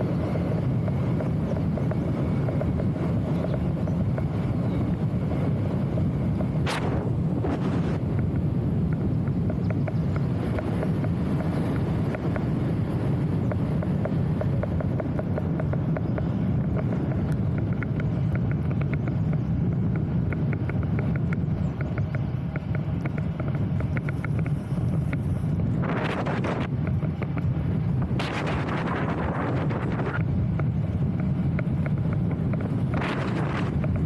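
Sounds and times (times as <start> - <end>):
wind buffeting microphone: 0.0 - 34.0
fast even clicking: 0.6 - 34.0.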